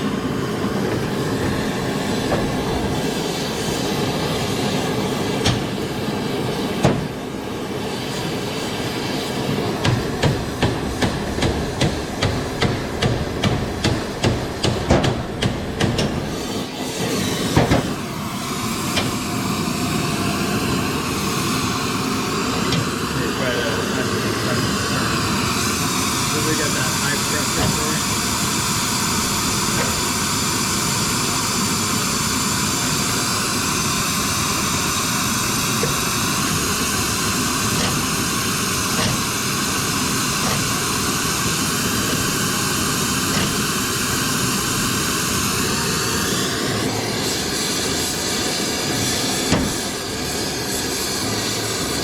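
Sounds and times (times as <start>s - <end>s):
gas torch hissing: 0.0s - 52.0s.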